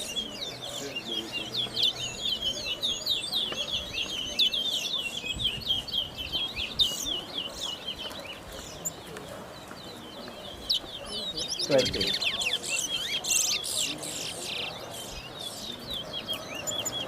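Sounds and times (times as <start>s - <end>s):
finch singing fast high chirps: 0.0s - 17.0s.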